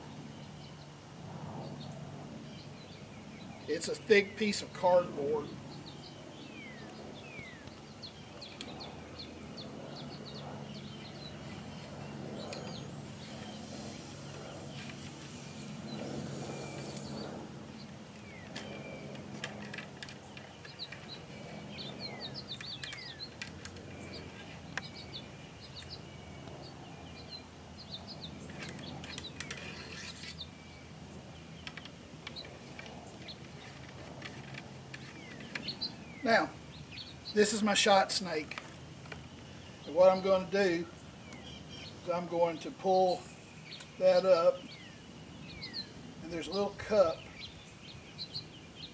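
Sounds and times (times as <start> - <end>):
wild birds chirping: 0.0 - 48.9.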